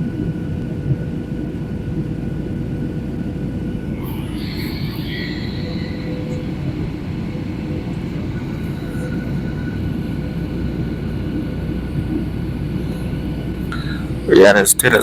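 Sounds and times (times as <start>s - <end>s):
airliner engine and airflow rumble: 0.0s - 15.0s
faint steady tones: 0.0s - 15.0s.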